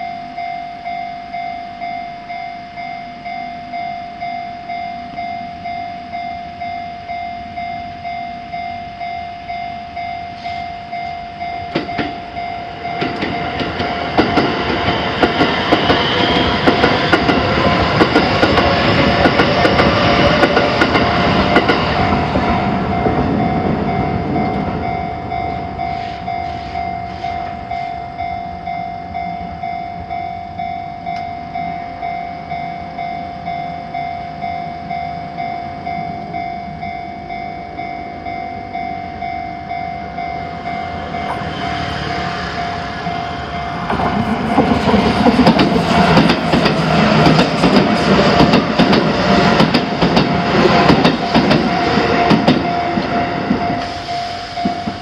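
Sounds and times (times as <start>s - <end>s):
level-crossing warning bell: 0.0s - 55.0s
train running with clacking wheels: 8.5s - 33.6s, 34.5s - 55.0s.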